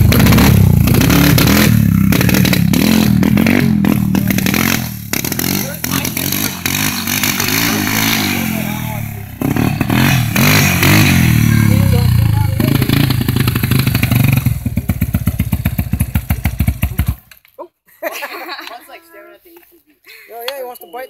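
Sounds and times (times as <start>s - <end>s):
quad engine revving: 0.0s - 17.2s.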